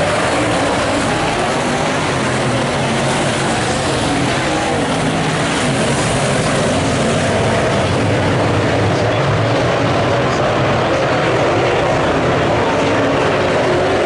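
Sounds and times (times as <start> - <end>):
race car engines at speed: 0.0 - 14.0.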